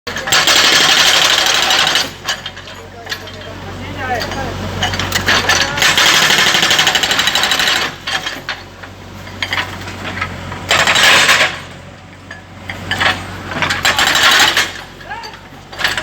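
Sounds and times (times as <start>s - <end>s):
jackhammer hammering: 0.1s - 3.5s, 4.1s - 11.8s, 12.7s - 15.0s.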